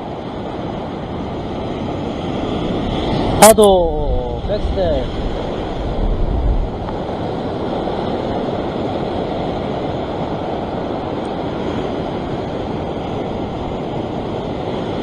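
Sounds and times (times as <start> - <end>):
ocean surf breaking on rocks: 0.0 - 15.0.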